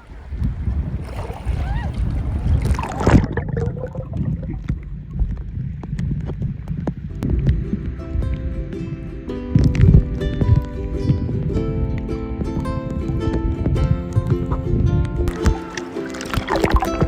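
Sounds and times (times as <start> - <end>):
water rumbling and churning: 0.0 - 17.0
wind noise on microphone: 0.0 - 17.0.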